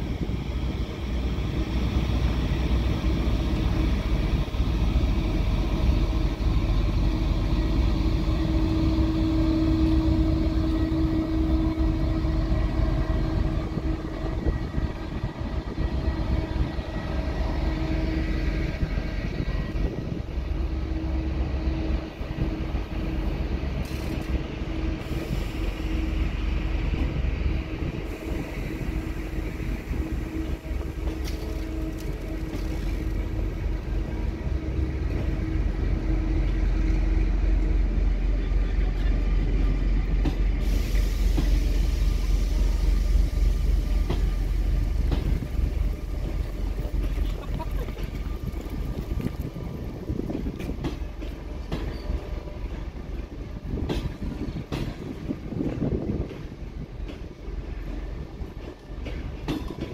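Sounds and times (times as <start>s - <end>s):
wheels rumbling on rails: 0.0s - 59.9s.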